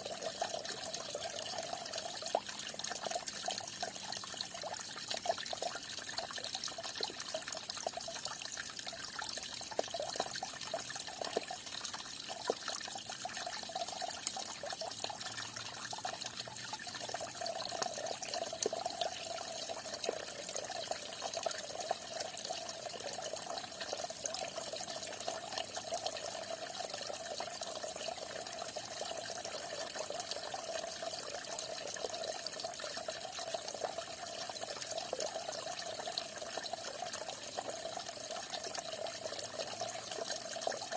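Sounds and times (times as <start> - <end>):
trickling stream: 0.0 - 40.9
water drips: 0.0 - 40.9.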